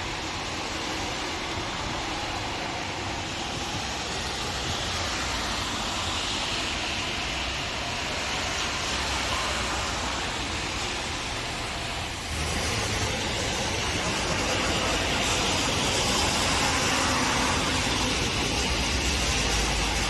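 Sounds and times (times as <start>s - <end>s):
steady rain: 0.0s - 20.0s
wind: 0.0s - 20.0s.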